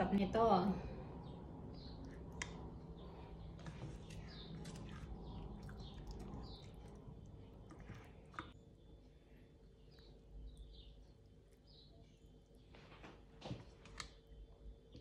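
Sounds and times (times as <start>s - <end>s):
faint bird chirping: 0.6s - 13.3s.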